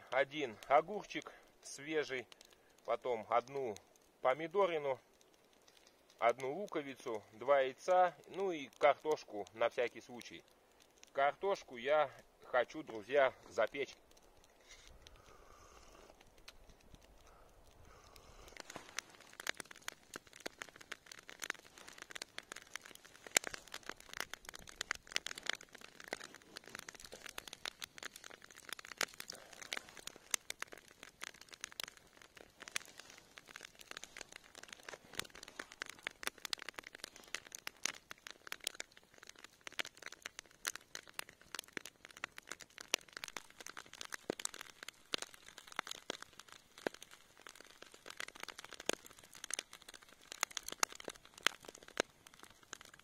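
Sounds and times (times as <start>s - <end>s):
embers crackling: 0.0s - 53.0s.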